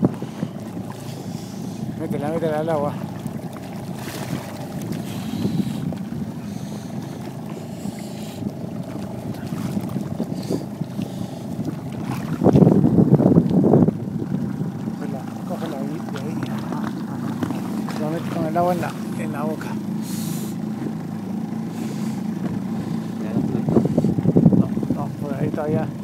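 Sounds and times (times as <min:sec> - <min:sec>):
wind rumbling on microphone: 0:00.0 - 0:21.1, 0:21.8 - 0:26.0
water lapping at boat: 0:00.0 - 0:26.0.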